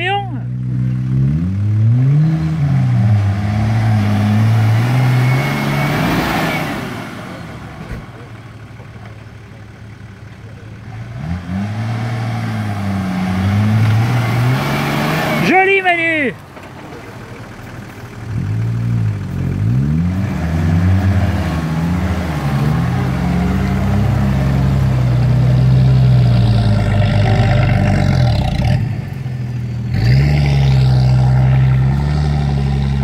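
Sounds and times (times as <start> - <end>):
engine revving: 0.0 - 33.0.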